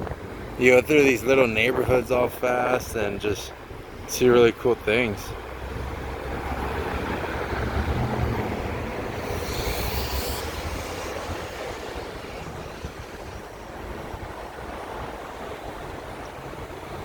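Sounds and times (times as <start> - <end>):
wind rushing over microphone: 0.0 - 2.1, 5.3 - 17.0
road and tyre noise: 0.0 - 17.0.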